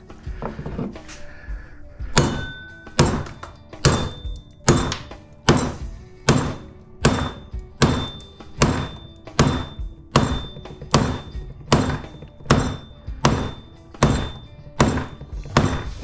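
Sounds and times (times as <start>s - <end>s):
hammer striking steel blade: 2.1s - 16.0s.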